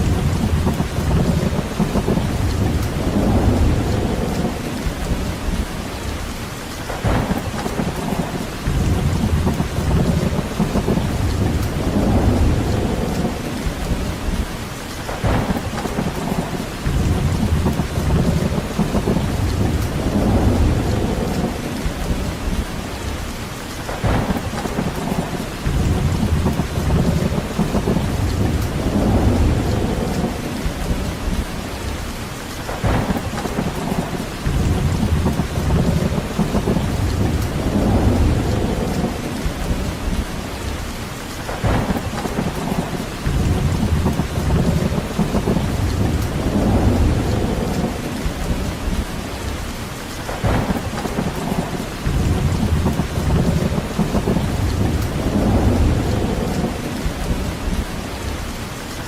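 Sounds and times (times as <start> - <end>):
deep thunder rumbles: 0.0 - 58.9
heavy rain: 0.0 - 59.0.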